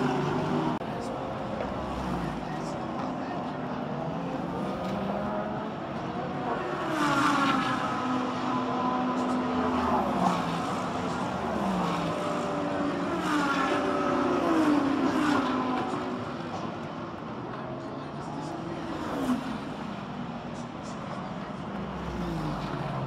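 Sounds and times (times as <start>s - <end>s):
race cars passing at speed: 0.0s - 23.0s.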